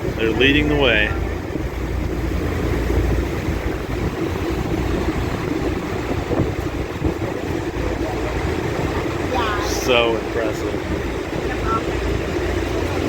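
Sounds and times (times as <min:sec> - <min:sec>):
boat engine rumble: 0:00.0 - 0:13.0
water rushing: 0:00.0 - 0:13.0
wind buffeting microphone: 0:00.0 - 0:13.0.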